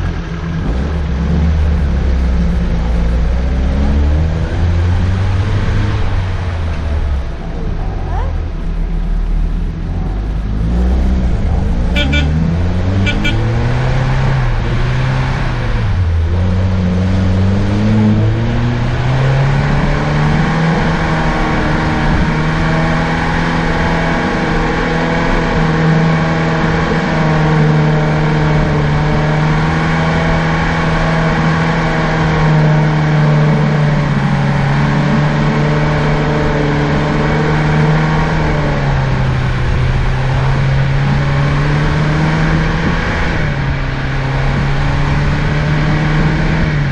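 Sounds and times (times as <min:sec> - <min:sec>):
car engine from inside cabin: 0:00.0 - 0:46.9.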